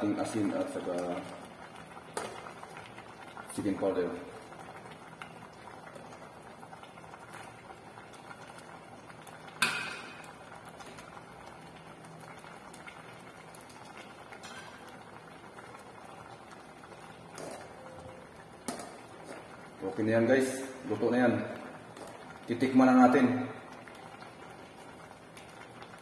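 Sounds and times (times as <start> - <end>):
soup simmering low bubbling: 0.0 - 26.0.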